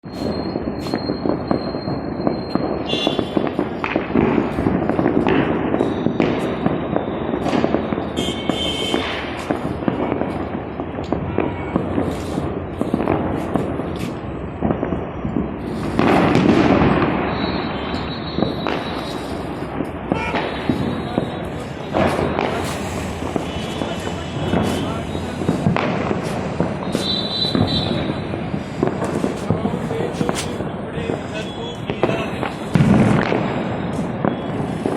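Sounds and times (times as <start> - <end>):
fireworks and firecrackers banging: 0.0 - 34.9.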